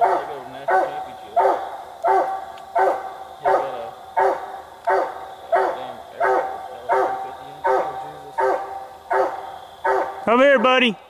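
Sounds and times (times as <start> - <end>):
hound barking: 0.0 - 10.7.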